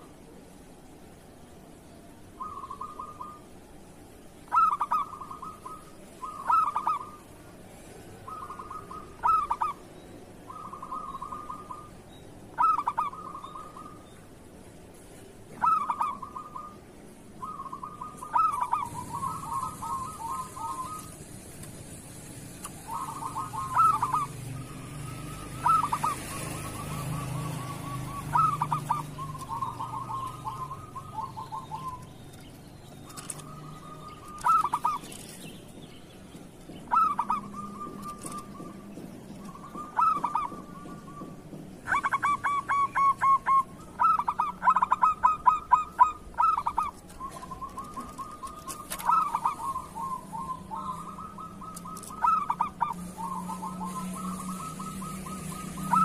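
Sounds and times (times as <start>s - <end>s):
doves cooing: 4.4s - 14.0s, 15.5s - 35.4s, 36.3s - 56.0s.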